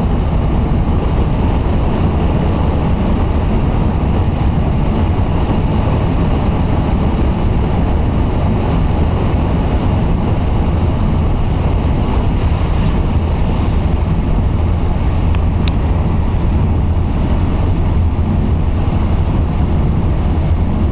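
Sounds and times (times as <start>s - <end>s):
car cabin drone on wet road: 0.0s - 20.9s.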